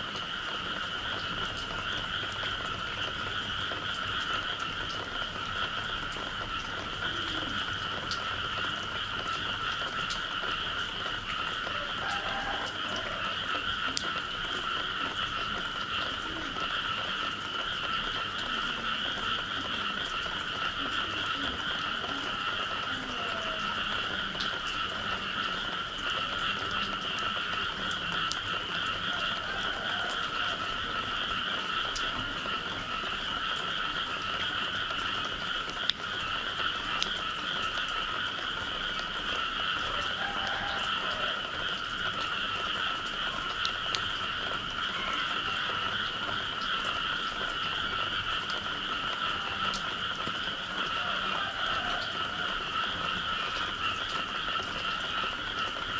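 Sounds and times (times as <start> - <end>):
frogs chorus: 0.0 - 55.9
water dripping ticks: 0.0 - 55.9.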